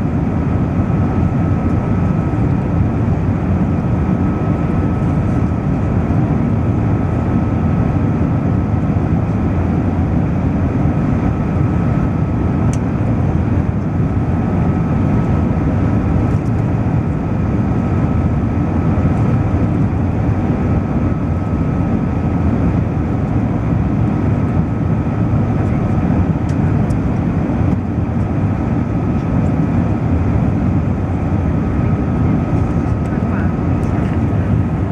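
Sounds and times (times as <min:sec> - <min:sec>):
jet engine rush: 0:00.0 - 0:34.9.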